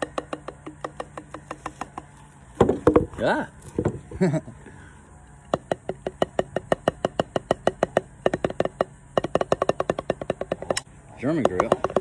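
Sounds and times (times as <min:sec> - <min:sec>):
drumsticks on rubber practice pad: 0:00.0 - 0:03.2, 0:05.4 - 0:12.0.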